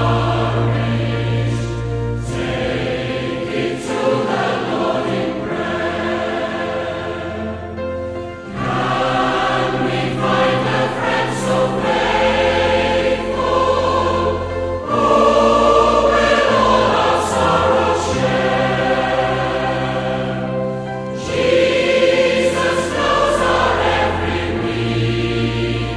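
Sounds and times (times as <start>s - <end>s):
choir singing a hymn: 0.0s - 25.9s
low accompaniment: 0.0s - 25.9s.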